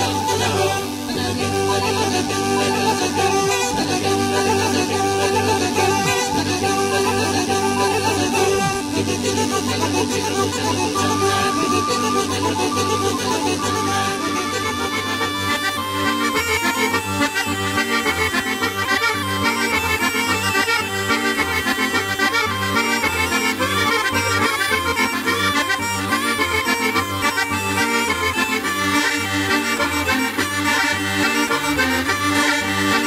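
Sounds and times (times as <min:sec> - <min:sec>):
accordion folk music: 0:00.0 - 0:33.0.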